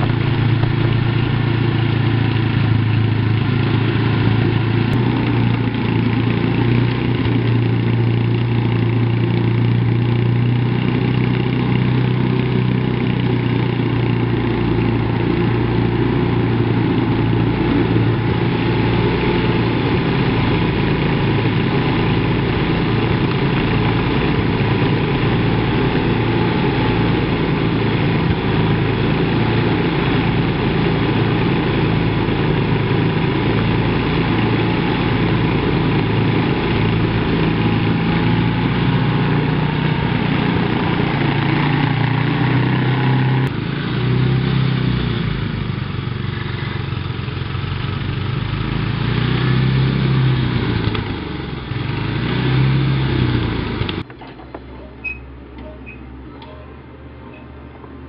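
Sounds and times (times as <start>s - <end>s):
small gas engine running: 0.0s - 58.0s.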